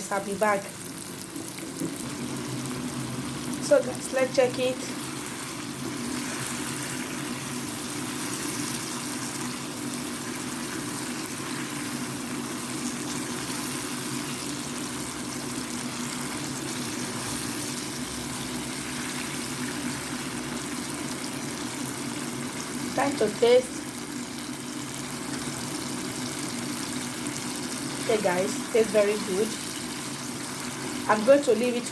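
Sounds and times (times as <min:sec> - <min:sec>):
pot simmering with sizzling hiss: 0:00.0 - 0:31.9.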